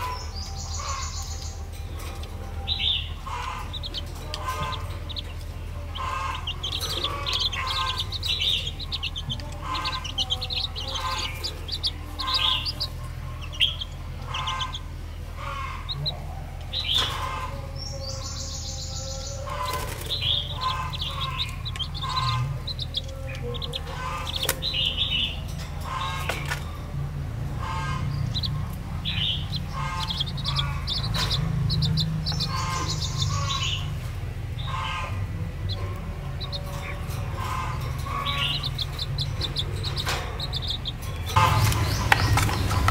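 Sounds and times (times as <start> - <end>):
baby chicks peeping: 0.0 - 42.9.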